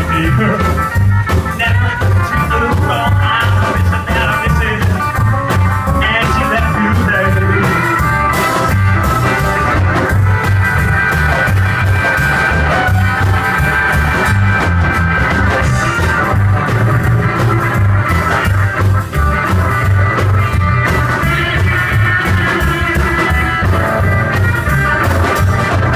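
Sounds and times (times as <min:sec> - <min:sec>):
rockabilly band playing live: 0:00.0 - 0:25.9
walking bass line: 0:00.0 - 0:25.9.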